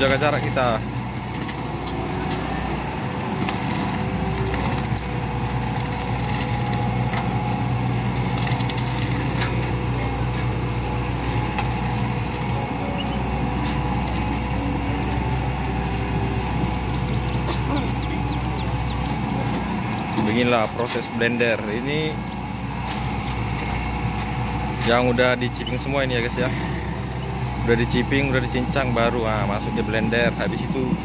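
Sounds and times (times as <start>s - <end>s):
mulcher engine and rotor hum: 0.0s - 31.0s
wood cracking being shredded: 0.0s - 31.0s.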